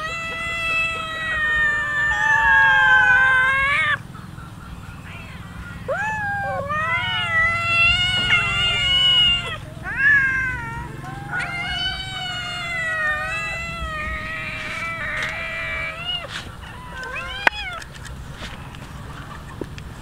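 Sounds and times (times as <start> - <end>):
cats meowing: 0.0 - 4.1, 5.1 - 18.1.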